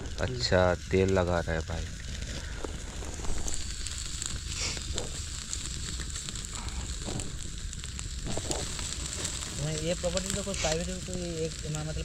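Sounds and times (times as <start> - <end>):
chicken sizzling on a grill: 0.0 - 12.0
fire crackling: 0.0 - 12.0.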